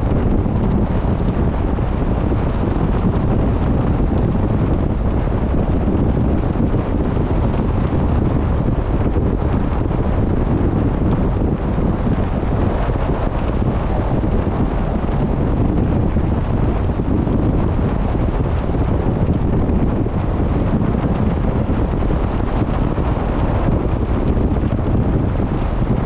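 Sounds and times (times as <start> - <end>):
sea water rushing along boat: 0.0 - 26.0
wind rumbling on microphone: 0.0 - 26.0.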